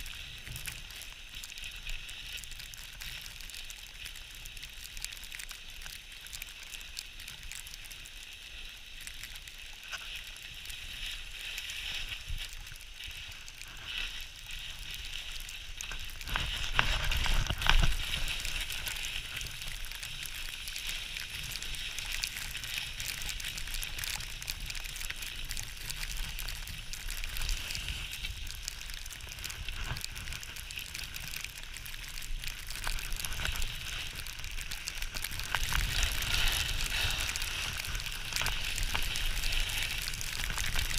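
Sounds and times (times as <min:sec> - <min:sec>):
skis scraping over snow: 0:00.0 - 0:04.9, 0:05.6 - 0:40.9.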